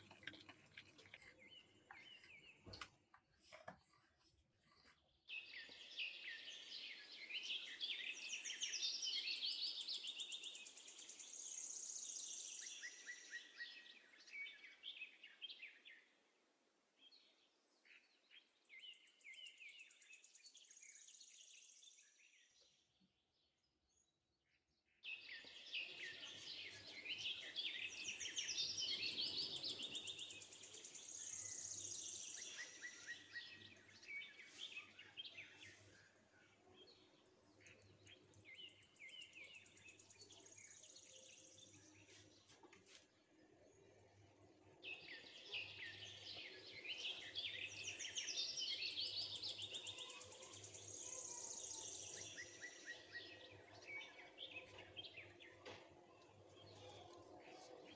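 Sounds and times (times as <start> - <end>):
songbirds chirping and trilling: 0.0 - 24.1, 25.0 - 57.9.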